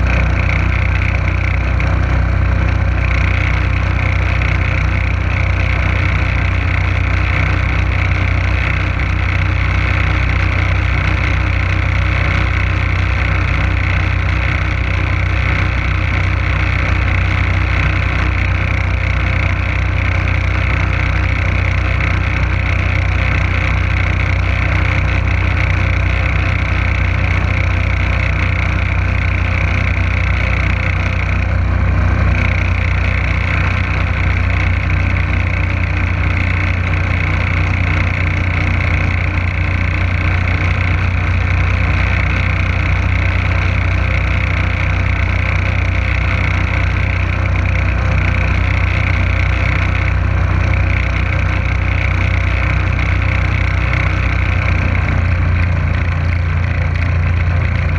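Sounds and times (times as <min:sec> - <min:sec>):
boat motor droning: 0:00.0 - 0:57.9.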